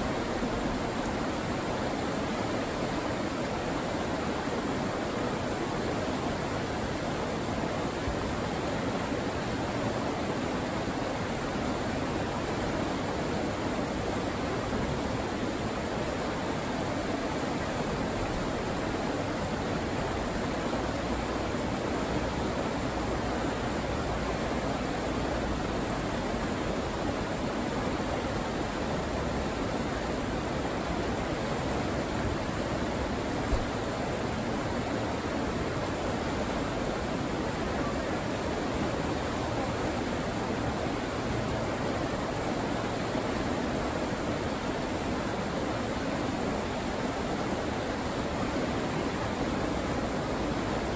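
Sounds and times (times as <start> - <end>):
river rapids rushing over rocks: 0.0 - 50.9.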